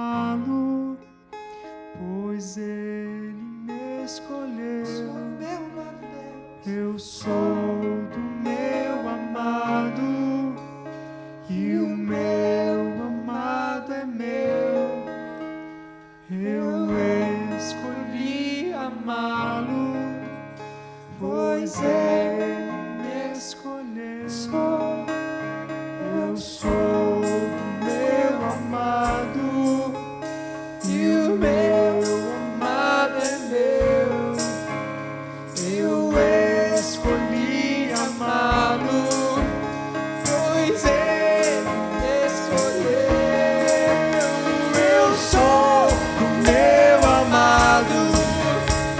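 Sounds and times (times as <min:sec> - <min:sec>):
acoustic guitar strummed: 0:00.0 - 0:48.9.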